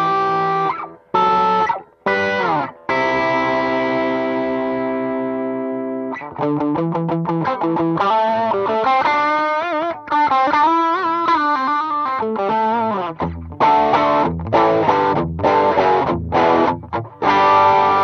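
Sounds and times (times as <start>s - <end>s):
overdriven electric guitar: 0.0s - 18.0s.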